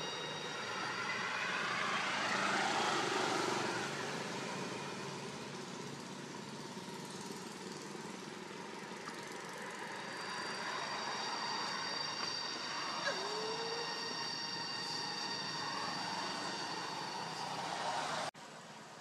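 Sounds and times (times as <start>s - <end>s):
passing vehicle engine: 0.0s - 18.4s.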